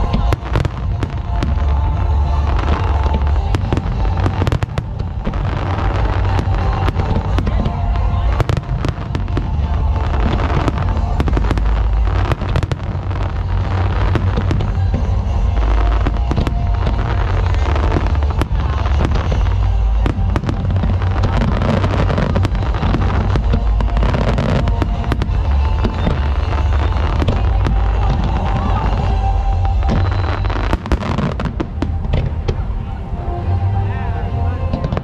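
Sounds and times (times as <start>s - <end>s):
firework shell bursts and crackle: 0.0s - 32.6s
low rumble: 0.0s - 35.0s.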